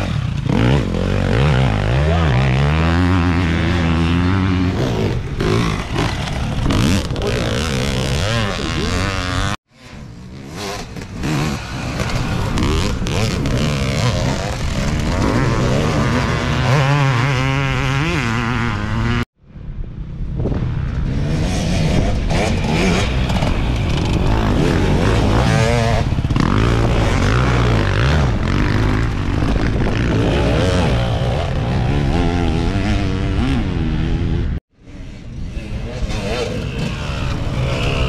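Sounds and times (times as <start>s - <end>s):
dirt bikes revving: 0.0s - 19.2s, 20.9s - 38.0s.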